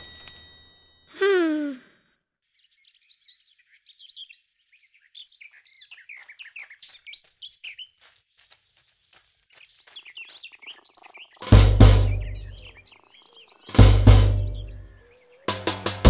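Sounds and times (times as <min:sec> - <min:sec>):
songbirds chirping and twittering: 0:02.4 - 0:16.0.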